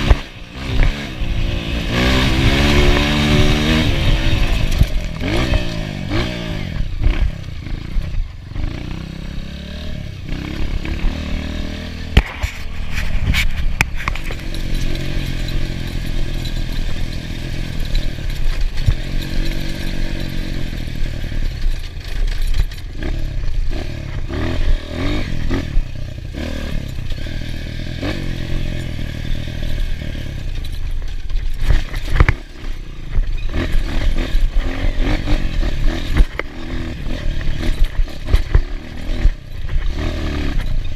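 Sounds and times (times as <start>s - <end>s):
clattering and thumps over rough ground: 0.0s - 9.1s, 10.2s - 40.9s
dirt bike engine revving: 0.0s - 40.9s.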